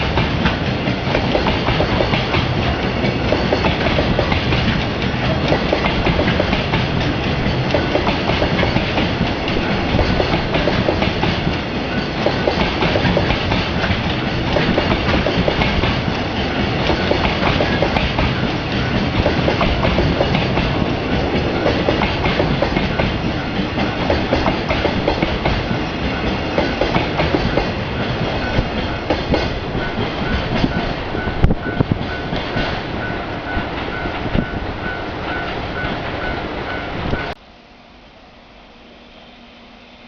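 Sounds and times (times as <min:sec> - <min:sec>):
wheels clacking over rail joints: 0:00.0 - 0:37.3
train wagons rumbling past: 0:00.0 - 0:37.4.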